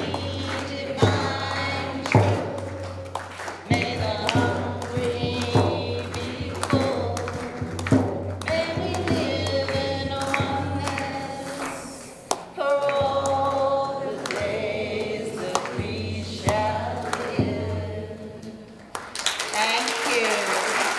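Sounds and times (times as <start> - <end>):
sharp percussive taps: 0.0 - 17.9
voices singing together: 0.0 - 19.1.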